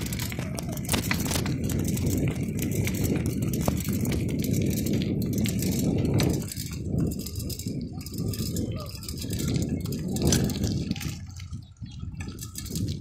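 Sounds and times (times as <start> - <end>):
bicycle rumbling over asphalt: 0.0 - 13.0
wind buffeting microphone: 0.0 - 13.0.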